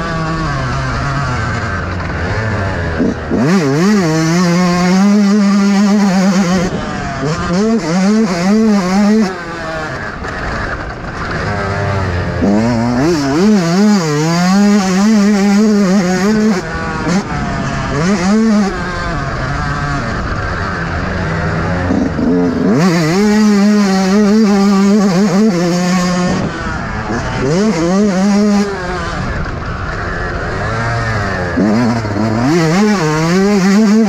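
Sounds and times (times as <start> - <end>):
two-stroke motorbike engine revving: 0.0 - 34.0.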